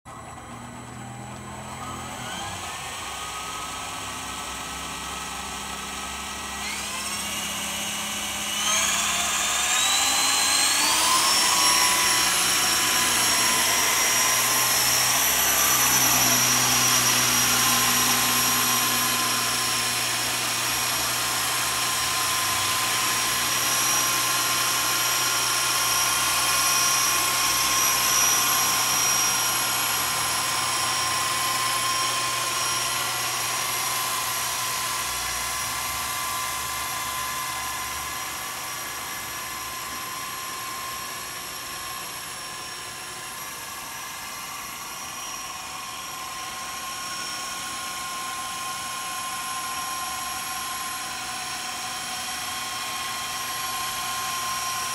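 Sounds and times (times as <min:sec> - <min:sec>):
electric helicopter rotor whine: 0:00.1 - 0:54.9.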